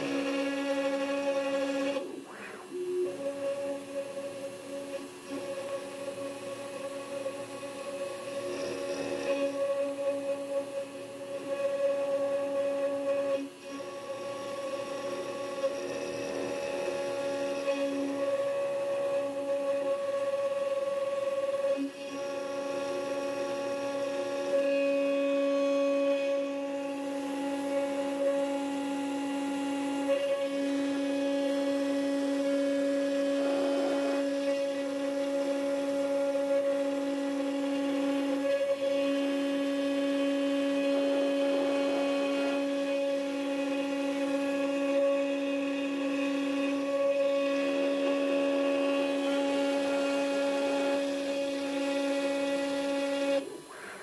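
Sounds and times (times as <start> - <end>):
cutting hiss: 0.0 - 54.0
router spindle whine: 0.0 - 54.0.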